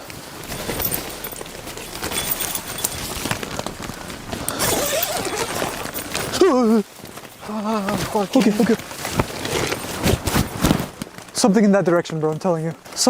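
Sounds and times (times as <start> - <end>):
tent zipper opening: 0.0 - 11.1
scuffling movement: 0.0 - 13.0
tent fabric rustling: 0.0 - 13.0.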